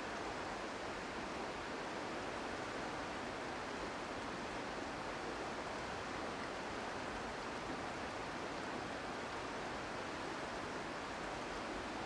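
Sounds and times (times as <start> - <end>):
river water rushing over rapids: 0.0 - 12.0.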